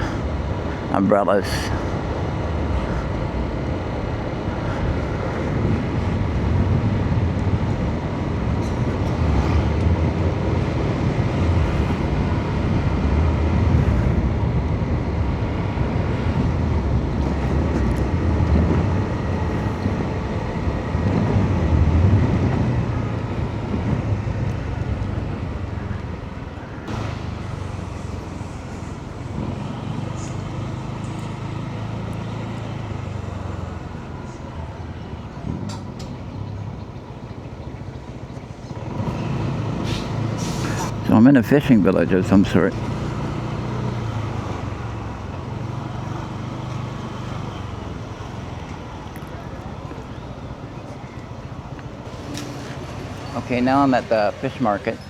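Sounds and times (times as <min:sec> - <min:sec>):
wind and road noise: 0:00.0 - 0:55.0
motorbike engine running: 0:01.7 - 0:54.0.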